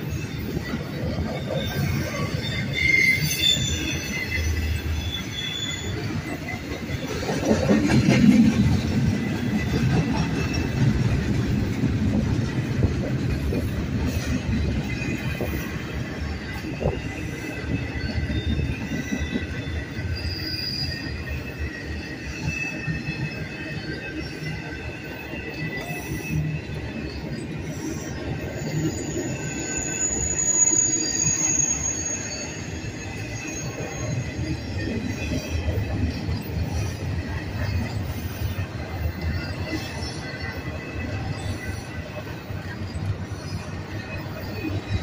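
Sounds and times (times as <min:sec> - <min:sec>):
high-pitched wheel squeals: 0:00.0 - 0:08.2, 0:13.5 - 0:45.0
train wheels rumbling on rail: 0:00.0 - 0:45.0.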